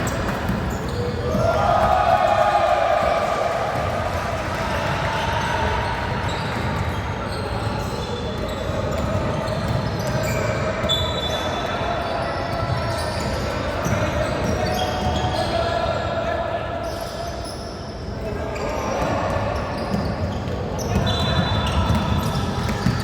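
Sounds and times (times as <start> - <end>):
sneaker squeaks: 0.0 - 1.9, 5.1 - 15.8, 16.8 - 23.0
players' voices: 0.0 - 23.0.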